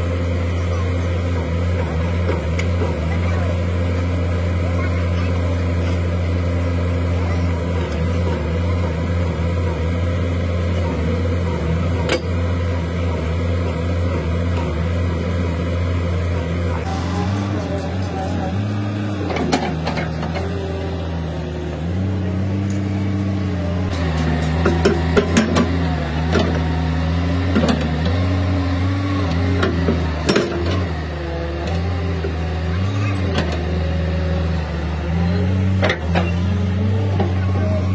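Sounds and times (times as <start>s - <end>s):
heavy engine idling: 0.0s - 37.9s.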